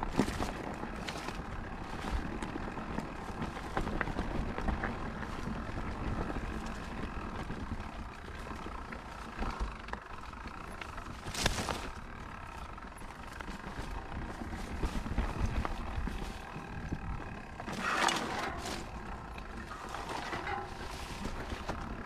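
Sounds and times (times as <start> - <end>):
rumble of riding on dirt trail: 0.0 - 22.0
small rattles: 0.0 - 22.0.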